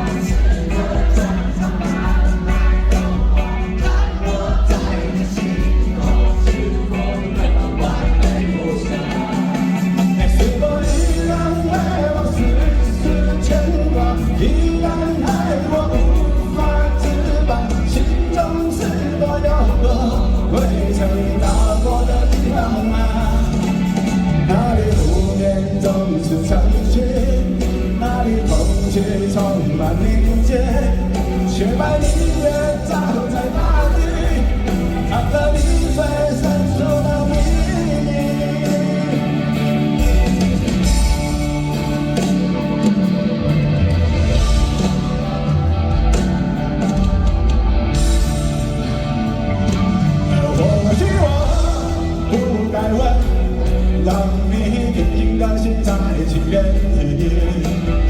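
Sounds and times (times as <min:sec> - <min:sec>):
live rock band: 0:00.0 - 0:58.0.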